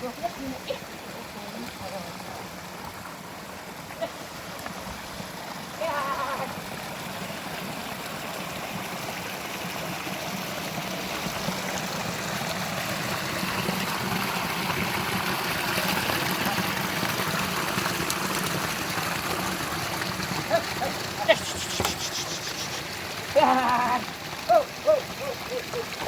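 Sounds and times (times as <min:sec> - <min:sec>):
running rainwater: 0:00.0 - 0:26.0.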